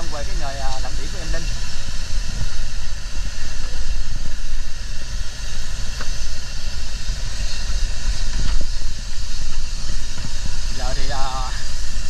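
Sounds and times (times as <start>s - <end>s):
boat engine rumbling: 0.0s - 12.0s
steady hiss: 0.0s - 12.0s.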